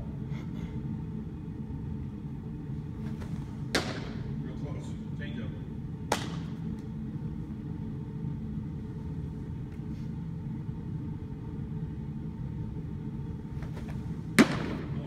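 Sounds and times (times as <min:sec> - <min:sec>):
low room noise rumble and hum: 0:00.0 - 0:15.0.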